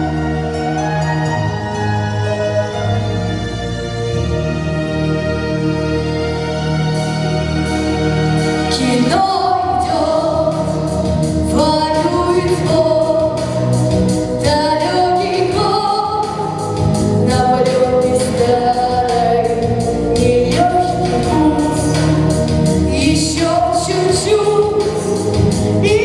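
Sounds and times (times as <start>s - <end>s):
instrumental backing music: 0.0s - 26.0s.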